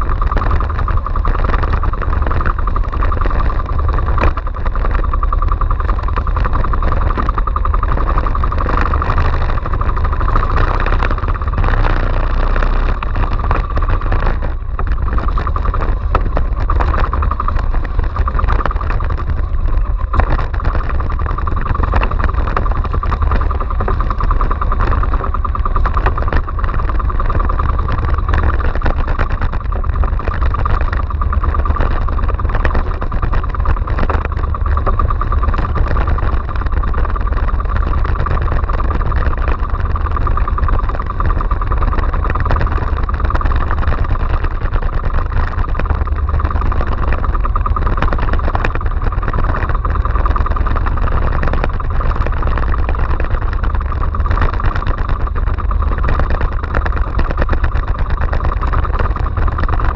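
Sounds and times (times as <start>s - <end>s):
boat engine running: 0.0s - 59.9s
wind rumble: 0.0s - 59.9s.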